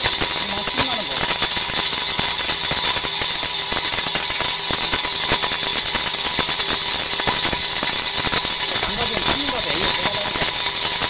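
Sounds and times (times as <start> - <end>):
brake disc lathe running: 0.0 - 11.0.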